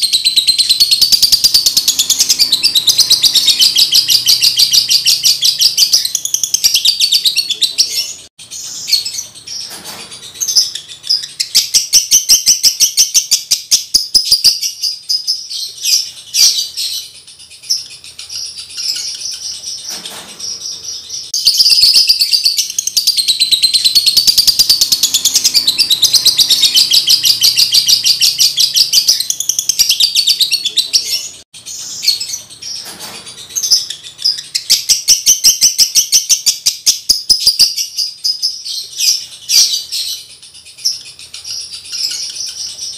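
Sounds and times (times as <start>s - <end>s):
lovebird chattering: 0.0s - 42.9s.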